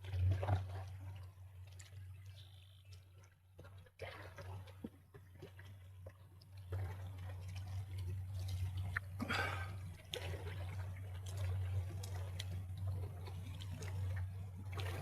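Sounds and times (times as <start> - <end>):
outboard motor running: 0.0 - 15.0
water splashing at hull: 0.0 - 15.0.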